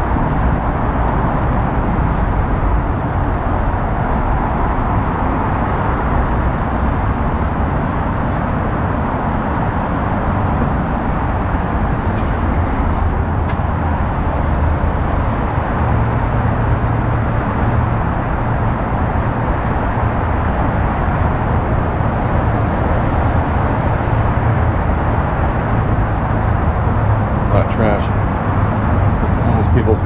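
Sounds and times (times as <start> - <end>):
freeway traffic roar: 0.0 - 30.0.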